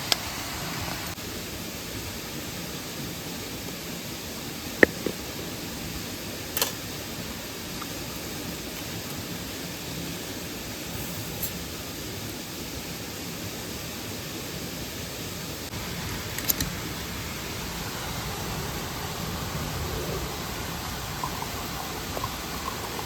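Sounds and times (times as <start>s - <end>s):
stream and waterfall rushing: 0.0s - 23.0s.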